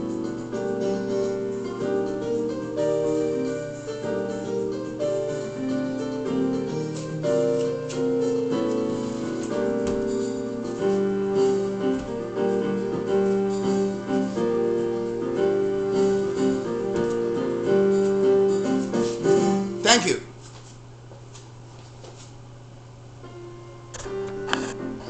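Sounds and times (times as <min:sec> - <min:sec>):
slow piano music: 0:00.0 - 0:19.9, 0:23.2 - 0:25.0.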